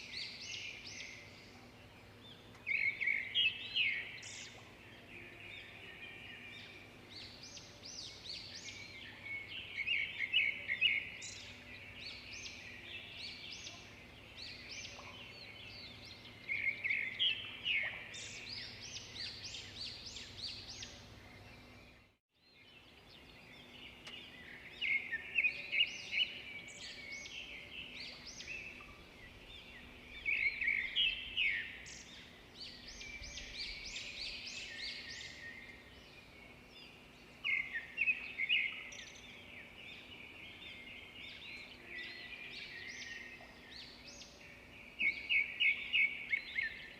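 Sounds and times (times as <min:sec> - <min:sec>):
birds chirping and singing: 0:00.0 - 0:46.9.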